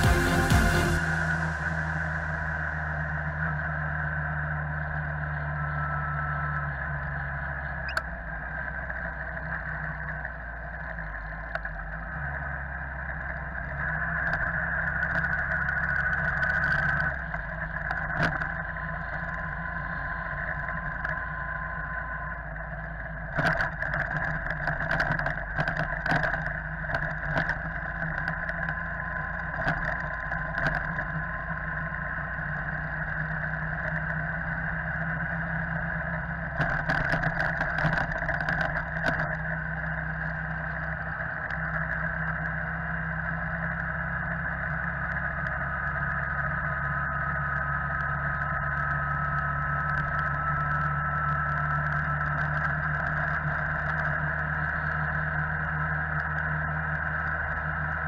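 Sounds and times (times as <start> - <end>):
motorbike engine running: 0.0 - 58.0
wind and road noise: 0.0 - 58.0.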